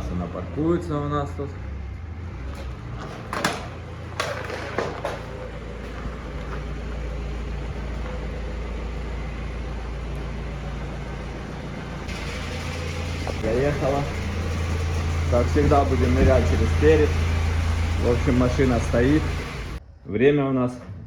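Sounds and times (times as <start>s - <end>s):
diesel engine running: 0.0s - 19.8s.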